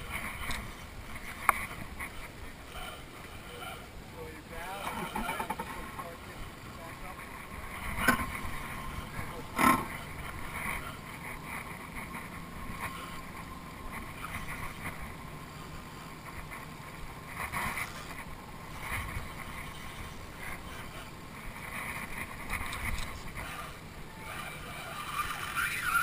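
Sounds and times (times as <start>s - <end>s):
water noise: 0.0s - 26.0s
wind: 0.0s - 26.0s.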